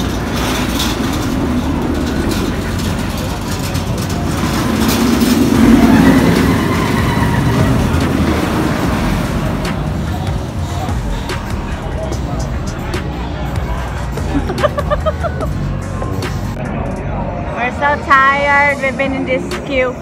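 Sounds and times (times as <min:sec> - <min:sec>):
roller coaster rumbling on track: 0:00.0 - 0:20.0.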